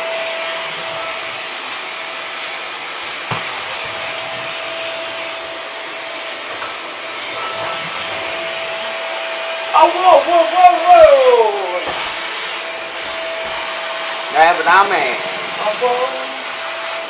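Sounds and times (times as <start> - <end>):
vacuum cleaner motor whining: 0.0 - 17.0.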